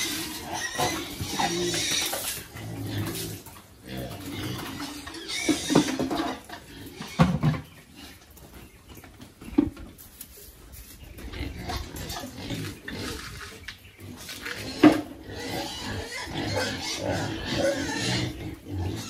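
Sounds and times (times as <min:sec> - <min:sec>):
pigs grunting: 0:00.0 - 0:08.4, 0:11.2 - 0:19.0.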